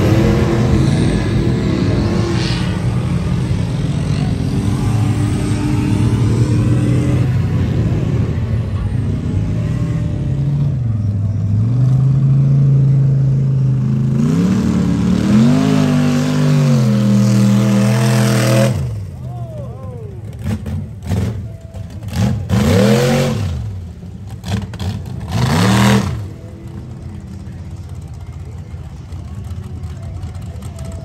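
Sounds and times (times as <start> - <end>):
truck engine revving high: 0.0 - 31.0.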